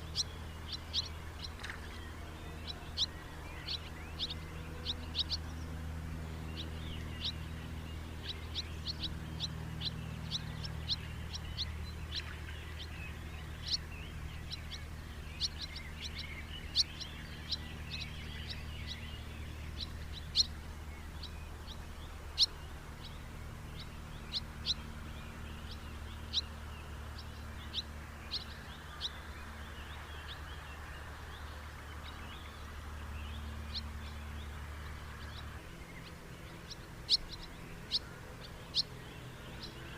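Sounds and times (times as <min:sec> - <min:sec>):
house martins chirping: 0:00.0 - 0:39.9
low background hum: 0:00.0 - 0:39.9.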